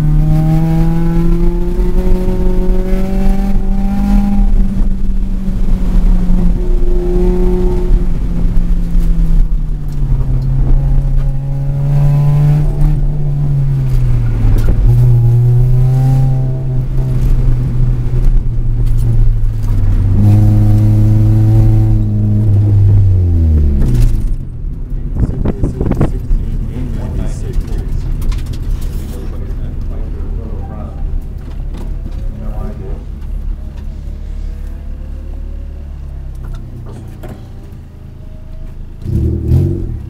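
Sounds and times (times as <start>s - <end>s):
car engine revving through gears: 0.0s - 40.0s.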